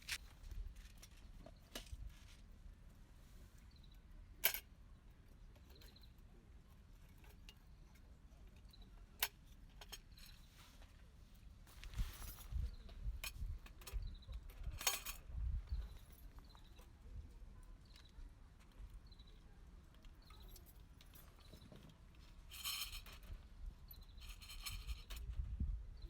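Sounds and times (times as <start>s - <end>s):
faint outdoor background: 0.0s - 26.0s.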